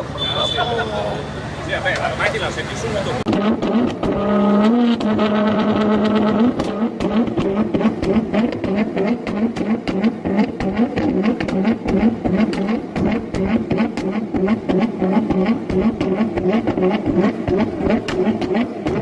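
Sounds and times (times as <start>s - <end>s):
sports car engine revving: 2.9s - 19.0s
exhaust pops and crackles: 3.2s - 19.0s.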